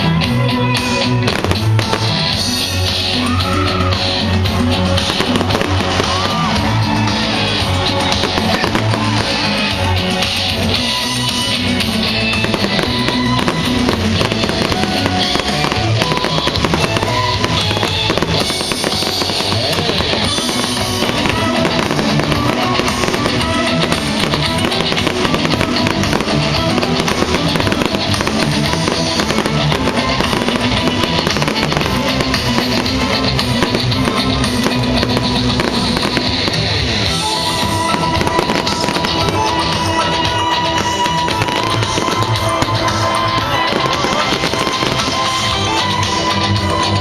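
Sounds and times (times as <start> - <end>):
fireworks bursting and crackling: 0.0 - 47.0
rock music: 0.0 - 47.0.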